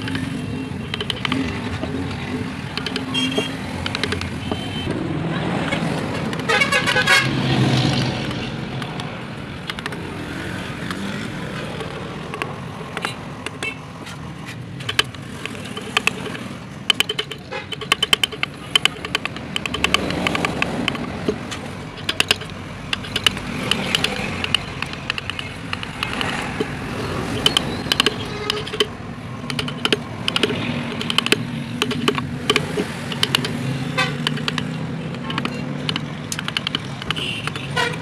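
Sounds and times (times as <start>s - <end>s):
chisels tapping on wood: 0.8s - 4.7s, 8.3s - 10.0s, 11.6s - 38.0s.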